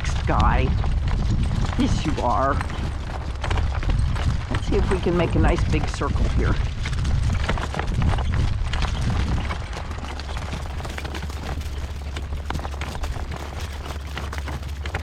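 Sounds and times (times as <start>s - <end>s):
horse hooves clip-clopping: 0.0s - 15.0s
wind buffeting microphone: 0.0s - 15.0s.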